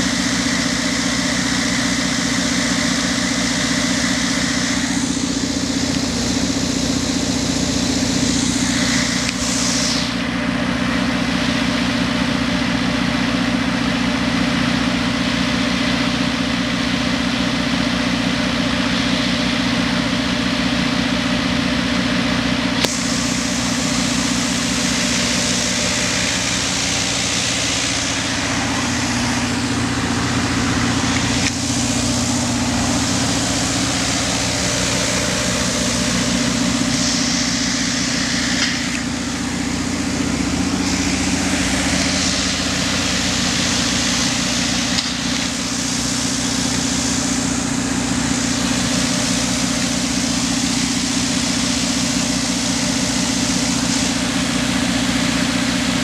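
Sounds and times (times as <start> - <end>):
generator engine humming: 0.0 - 56.0.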